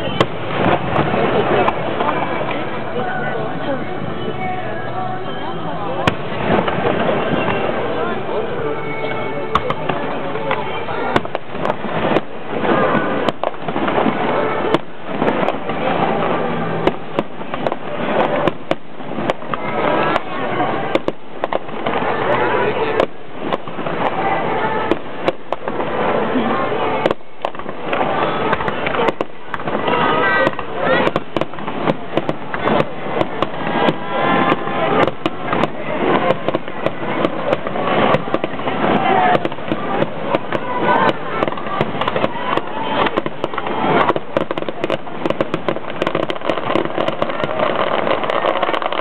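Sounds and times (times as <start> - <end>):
continuous crackling: 0.0 - 49.0
fireworks bursting: 0.0 - 49.0.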